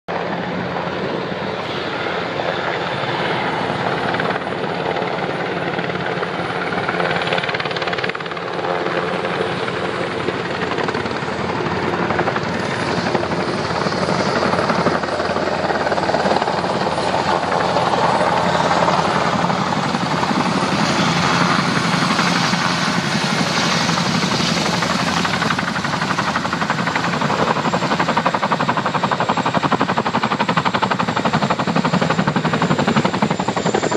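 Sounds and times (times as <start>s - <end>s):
helicopter turbines din: 0.1s - 33.9s.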